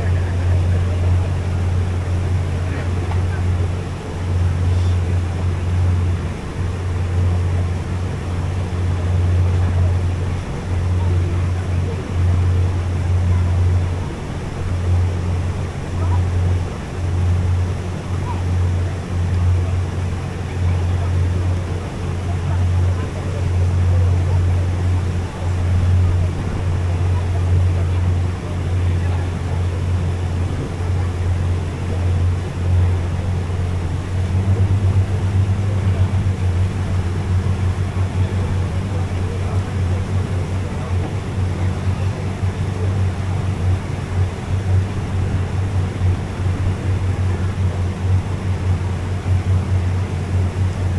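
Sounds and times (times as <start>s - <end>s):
boat motor droning: 0.0s - 50.9s.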